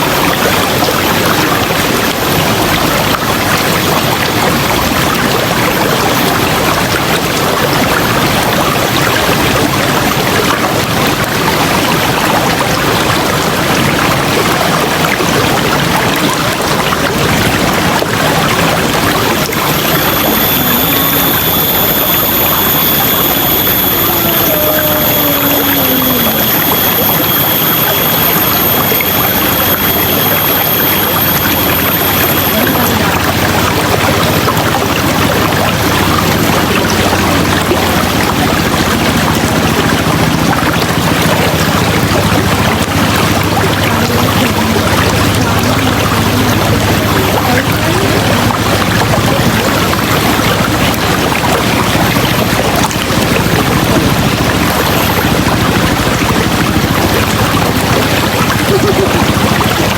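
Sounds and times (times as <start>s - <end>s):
faint high whine: 0.0s - 59.9s.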